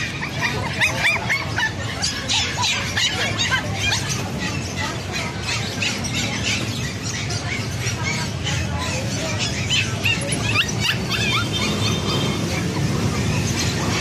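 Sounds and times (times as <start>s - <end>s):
high-pitched animal squeals: 0.0s - 12.9s.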